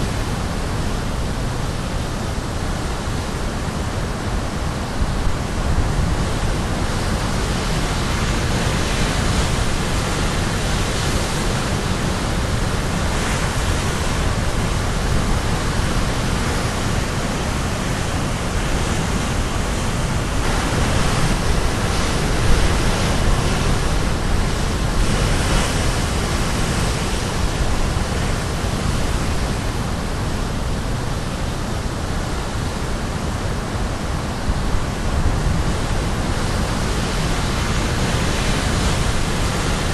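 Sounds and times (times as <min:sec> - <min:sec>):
surf breaking on shore: 0:04.9 - 0:31.9, 0:32.7 - 0:39.9.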